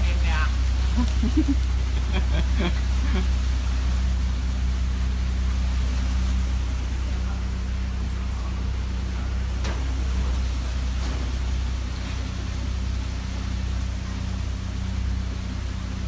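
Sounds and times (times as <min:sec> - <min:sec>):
heavy machinery humming: 0:00.0 - 0:16.0.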